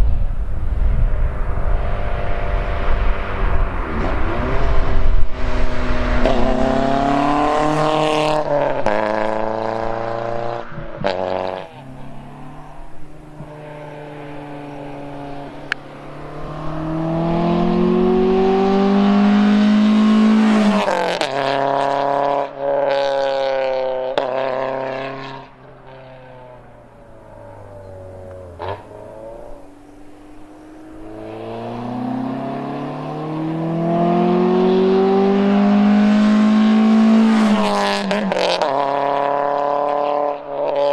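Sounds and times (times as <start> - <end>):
car exhaust revving past: 0.0 - 40.9.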